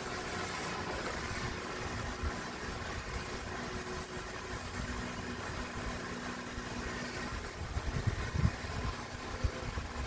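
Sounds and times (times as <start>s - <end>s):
faint steady hum: 0.0s - 10.0s
torch flame hissing: 0.0s - 10.0s.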